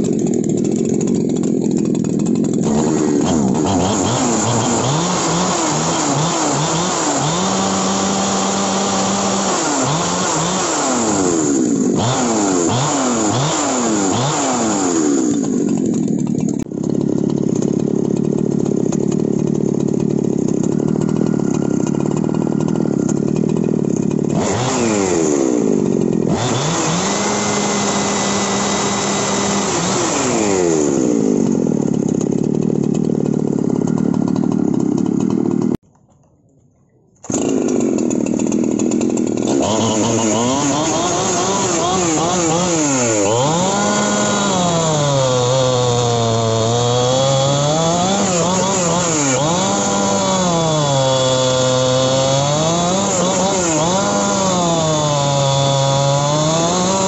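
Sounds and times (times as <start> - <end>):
chainsaw revving and idling: 0.0 - 35.8, 37.2 - 57.0.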